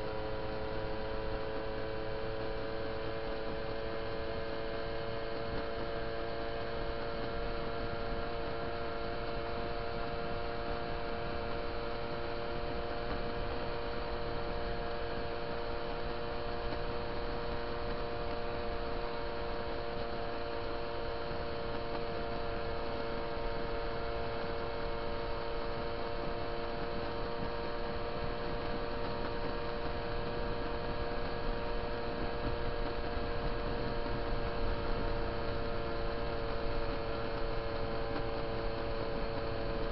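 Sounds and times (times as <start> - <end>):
steady moped hum: 0.0 - 39.9.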